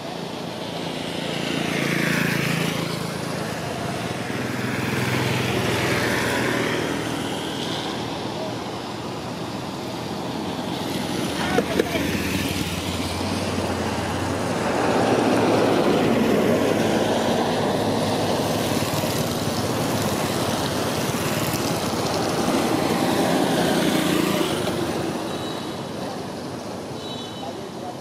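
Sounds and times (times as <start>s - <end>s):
vehicles passing on wet road: 0.0s - 28.0s.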